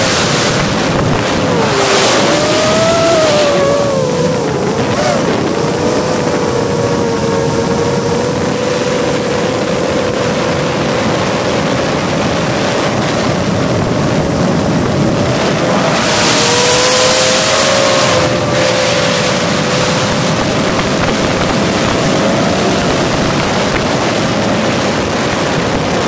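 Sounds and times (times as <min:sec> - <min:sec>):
drone propellers whining: 0:00.0 - 0:26.0
wind rushing over microphone: 0:00.0 - 0:26.0.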